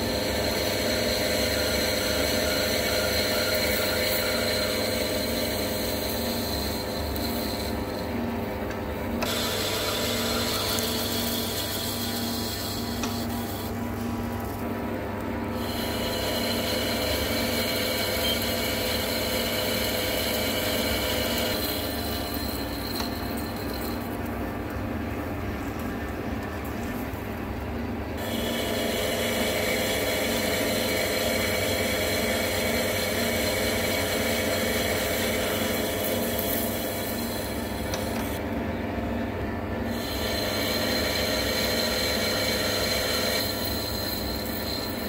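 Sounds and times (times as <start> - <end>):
cutting tool whine on steel: 0.0 - 24.3, 28.2 - 38.4, 39.9 - 45.0
lathe running drone: 0.0 - 25.1, 28.1 - 38.4, 39.9 - 45.0.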